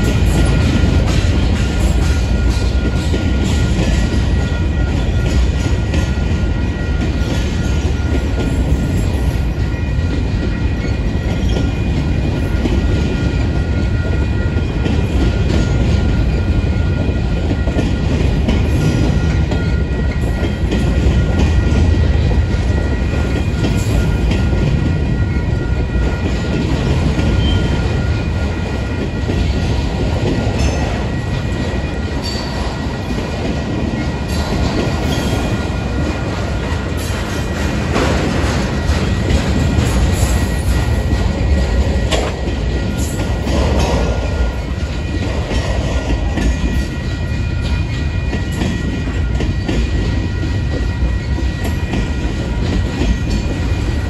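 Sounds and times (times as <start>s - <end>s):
train wheels rumbling clickety-clack: 0.0s - 54.0s.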